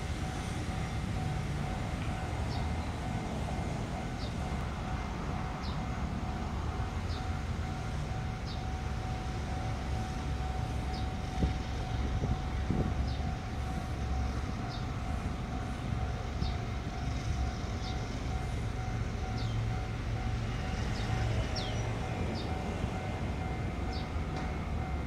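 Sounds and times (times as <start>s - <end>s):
distant diesel locomotive rumble: 0.0s - 25.0s.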